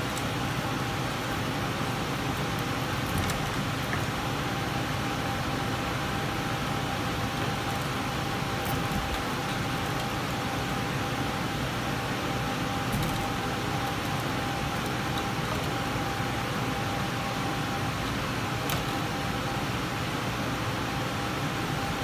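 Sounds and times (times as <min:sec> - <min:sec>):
mechanical hum with whine: 0:00.0 - 0:22.0.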